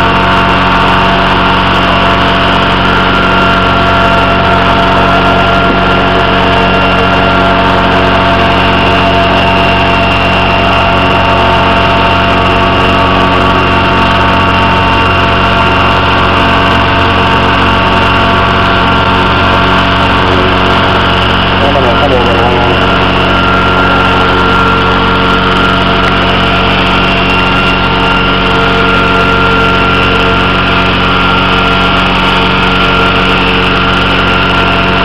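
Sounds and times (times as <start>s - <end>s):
model helicopter motor and rotors whining: 0.0s - 35.0s.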